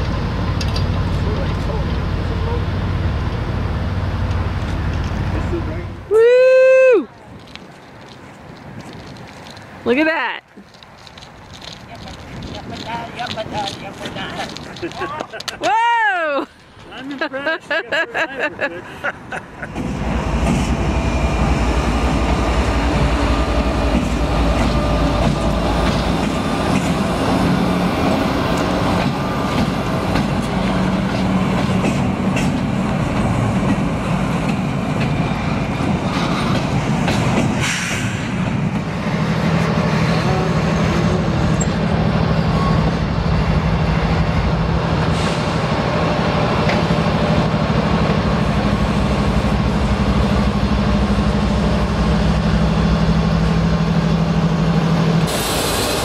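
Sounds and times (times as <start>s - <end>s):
rail joint clicks: 0.0s - 2.4s, 3.2s - 5.4s, 10.5s - 15.8s, 19.7s - 56.0s
diesel locomotive engine drone: 0.0s - 14.9s, 18.2s - 56.0s
train wheels rumbling on rail: 0.0s - 15.8s, 18.4s - 56.0s.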